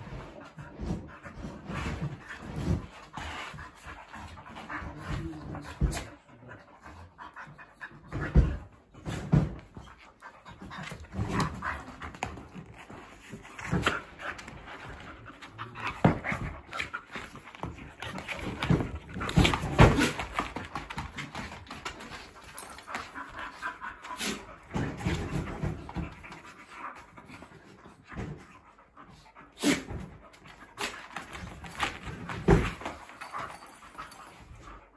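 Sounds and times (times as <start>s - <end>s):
dogs panting and snuffling: 0.0s - 34.9s.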